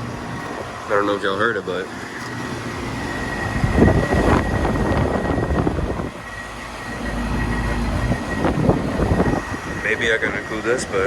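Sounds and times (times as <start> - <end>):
fan air rushing with whine: 0.0 - 11.0
low rumbling noise: 0.0 - 11.0.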